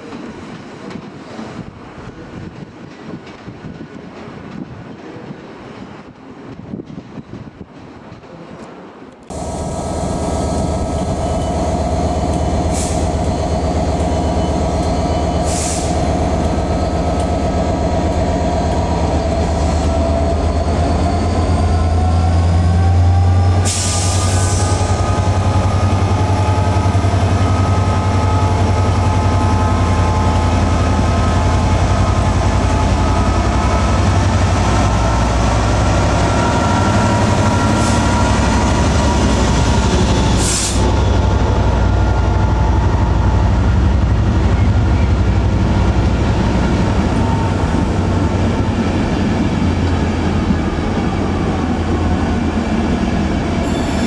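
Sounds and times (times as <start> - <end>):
diesel locomotive engine droning: 8.7 - 54.0.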